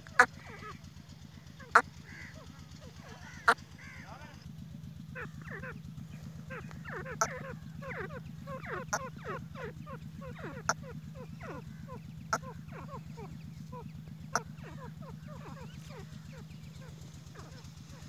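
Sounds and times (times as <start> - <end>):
francolins chirping: 0.0 - 18.0
low engine hum: 0.0 - 18.0.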